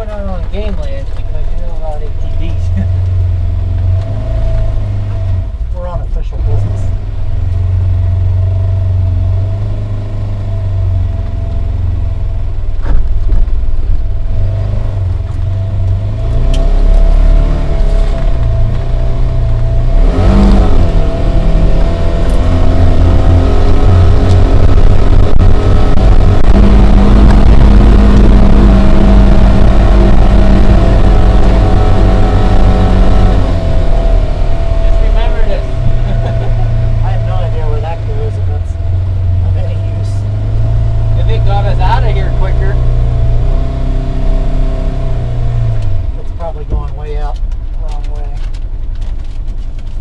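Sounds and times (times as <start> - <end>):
vehicle engine drone: 0.0 - 50.0.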